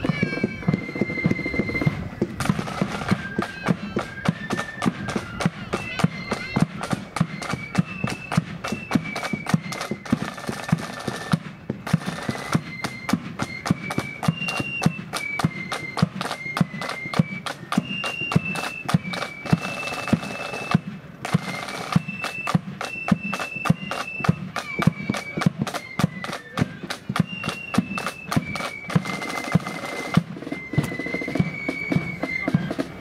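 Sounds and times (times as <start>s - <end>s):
flutes playing melody: 0.0s - 33.0s
marching snare and bass drums: 0.0s - 33.0s.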